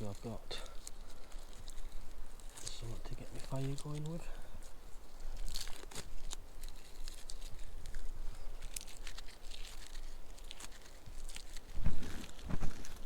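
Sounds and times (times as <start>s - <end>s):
bark peeling and tearing: 0.0s - 4.2s, 5.2s - 13.0s.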